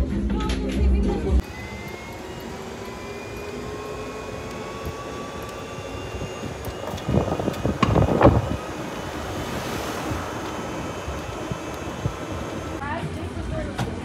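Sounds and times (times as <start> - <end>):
faint rising whine: 1.4 - 12.8
golf cart motor and road noise: 1.4 - 14.0.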